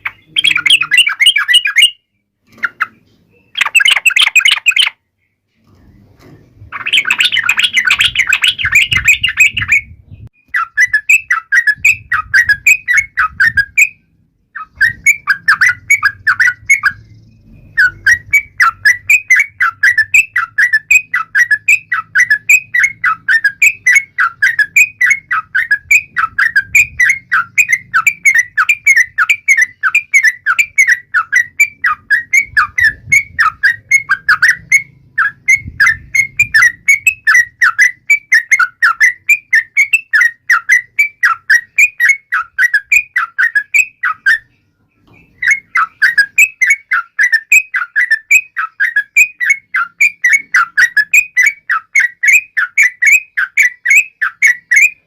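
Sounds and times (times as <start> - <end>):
bulbul chattering: 0.0 - 5.0, 6.5 - 55.0.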